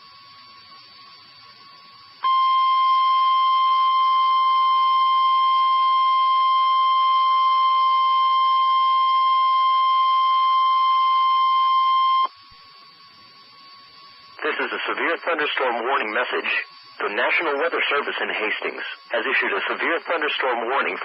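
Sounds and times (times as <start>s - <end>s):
steady alarm beep: 0.0s - 21.0s.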